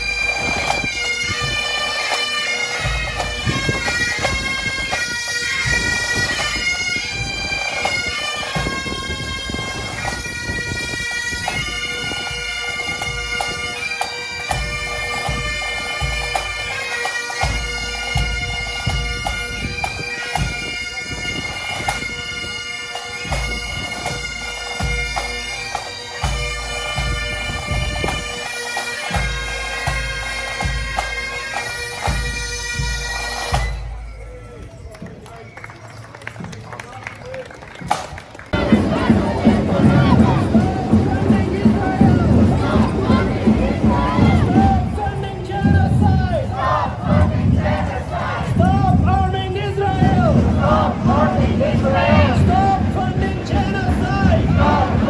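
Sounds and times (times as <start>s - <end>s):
bagpipes playing a tune: 0.0s - 36.4s, 37.8s - 55.0s.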